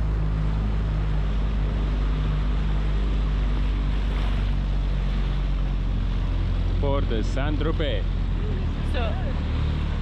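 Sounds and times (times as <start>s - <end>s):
outboard motor humming: 0.0s - 10.0s
water rushing past hull: 0.0s - 10.0s.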